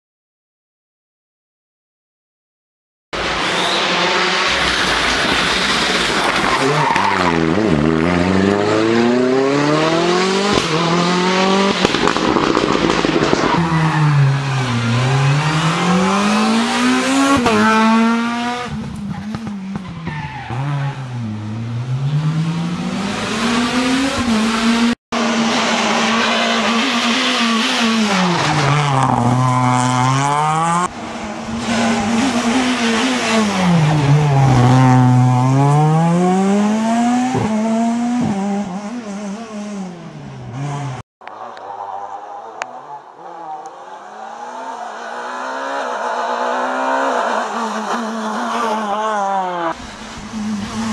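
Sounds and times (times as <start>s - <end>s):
rally car engines revving: 3.2s - 50.9s.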